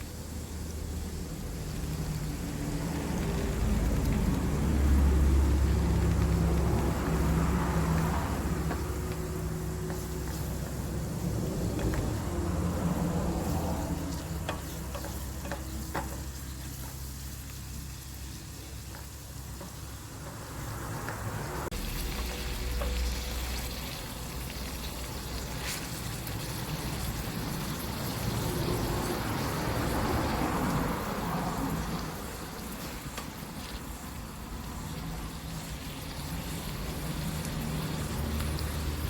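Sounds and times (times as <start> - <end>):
food sizzling in a pan: 0.0 - 39.0
wood fire crackling: 0.0 - 39.0.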